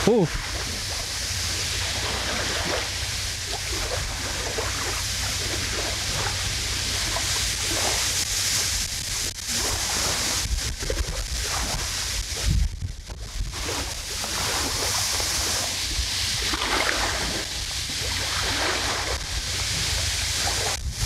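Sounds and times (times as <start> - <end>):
strong wind on microphone: 0.0 - 21.0
waves lapping at shore: 0.0 - 21.0.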